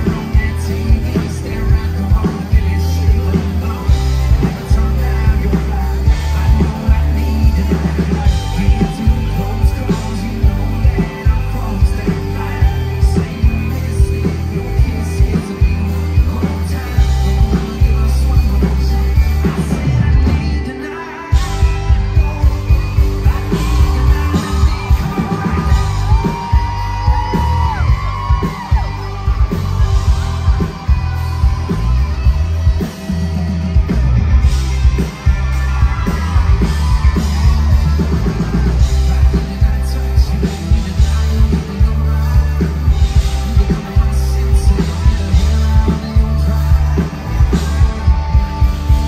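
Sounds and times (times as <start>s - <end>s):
live country band: 0.0s - 49.0s
person singing: 0.0s - 49.0s.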